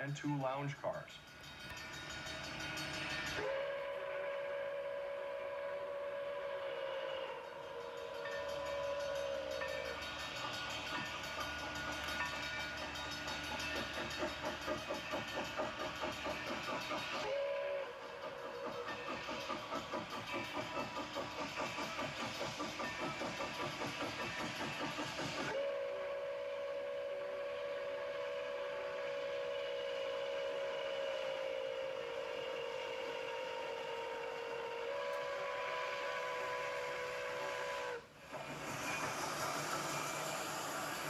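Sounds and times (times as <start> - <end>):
steam locomotive exhaust chuffing: 0.0 - 41.0
train rumbling by: 0.0 - 41.0
steam whistle blast: 2.1 - 41.0.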